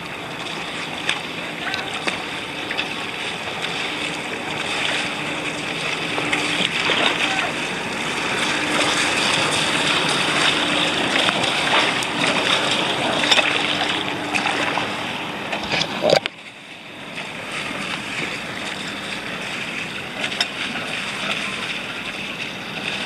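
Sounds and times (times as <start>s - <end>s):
small splashes: 0.0s - 23.0s
water sloshing around kayak: 0.0s - 23.0s.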